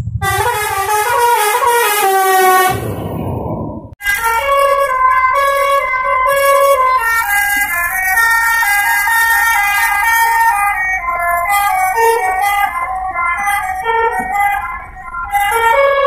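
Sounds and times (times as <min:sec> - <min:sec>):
multi-tone air horn melody: 0:00.2 - 0:02.9, 0:04.0 - 0:16.0.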